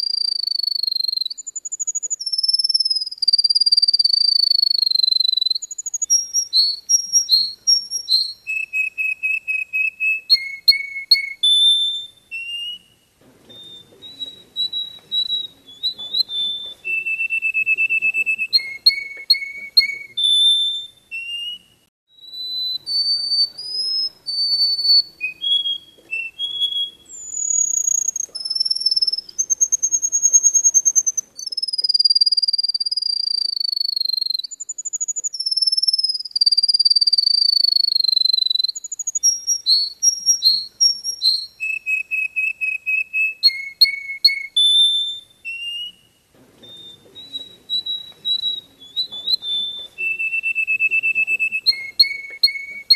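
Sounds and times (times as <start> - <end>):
finch singing whistles and trills: 0.0 - 52.9.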